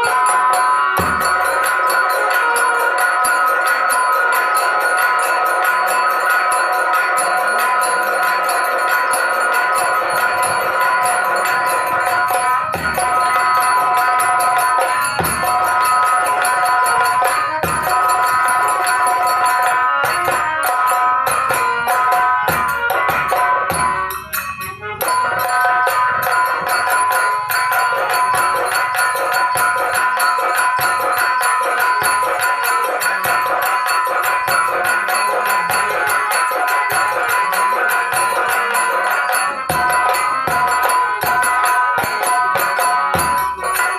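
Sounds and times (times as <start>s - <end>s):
drums beating steadily: 0.0s - 43.9s
held melody notes: 0.0s - 43.9s
jingling percussion: 0.0s - 43.9s.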